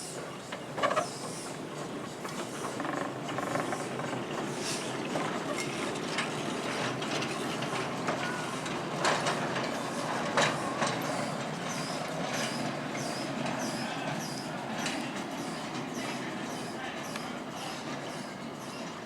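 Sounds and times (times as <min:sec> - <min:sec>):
train wheels clicking on rail joints: 0:00.0 - 0:19.0.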